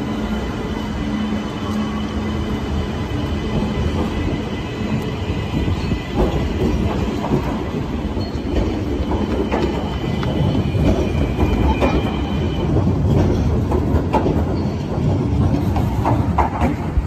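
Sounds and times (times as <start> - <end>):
train motors rumbling: 0.0 - 17.0
train wheels clattering on rails: 0.0 - 17.0.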